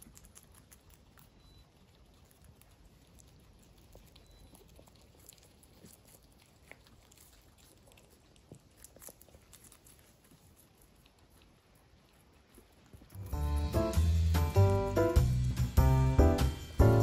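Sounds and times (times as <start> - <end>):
guinea pigs chewing greens: 0.0 - 17.0.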